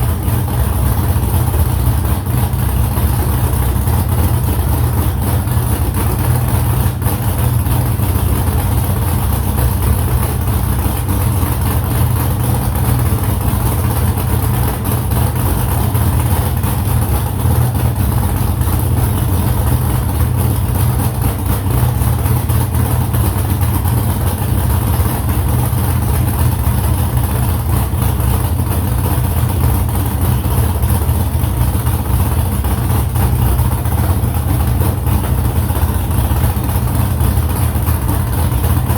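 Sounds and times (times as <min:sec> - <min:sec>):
car engine droning steadily: 0:00.0 - 0:38.9.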